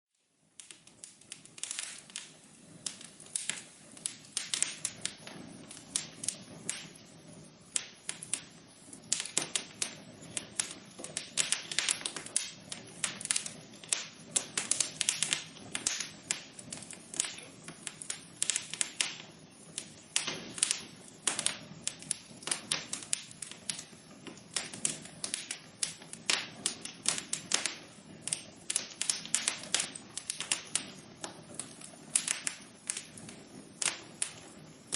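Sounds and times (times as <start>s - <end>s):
low steady hiss of fire: 0.1s - 34.9s
fire crackling and popping: 0.2s - 34.9s.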